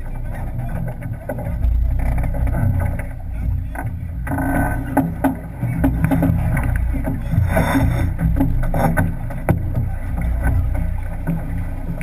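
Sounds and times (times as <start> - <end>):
wind rumble on microphone: 0.0 - 12.0
knocks and clicks: 0.7 - 12.0.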